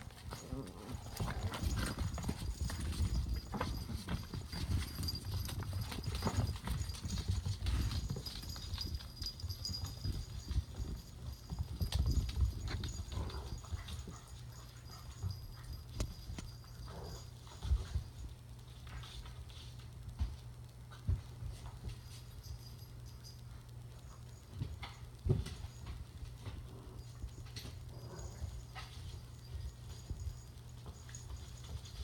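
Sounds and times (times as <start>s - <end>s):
puppy claws clicking on floor: 0.0s - 32.0s
collar bell jingling: 0.1s - 19.6s, 21.5s - 32.0s.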